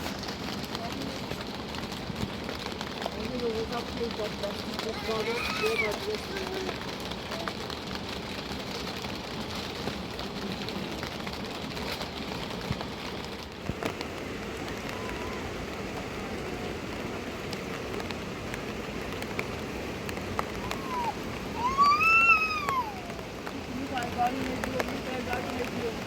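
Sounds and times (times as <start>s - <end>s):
sharp raindrop hits: 0.0s - 26.0s
steady rain falling: 0.0s - 26.0s.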